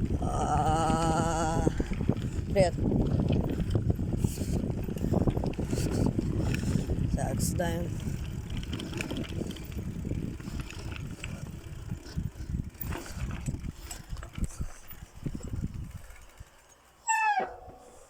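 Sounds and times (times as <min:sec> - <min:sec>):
bicycle knocking and rattling: 0:00.0 - 0:18.0.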